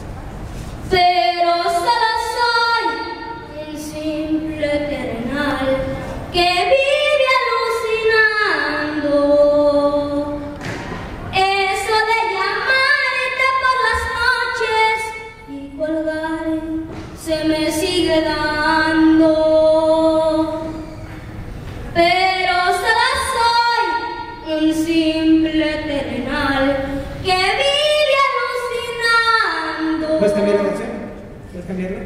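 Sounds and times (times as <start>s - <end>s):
child singing unaccompanied: 0.9s - 10.6s, 11.3s - 20.8s, 22.0s - 30.7s.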